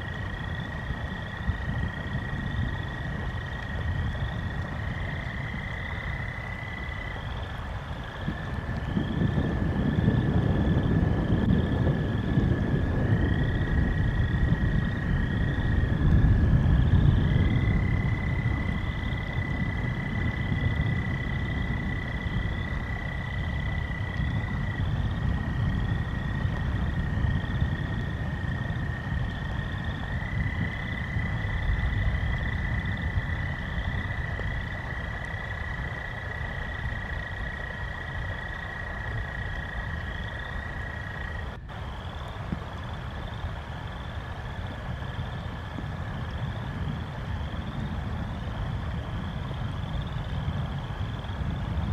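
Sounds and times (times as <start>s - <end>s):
frogs and toads trilling: 0.0s - 51.9s
low rumble of storm: 0.0s - 51.9s.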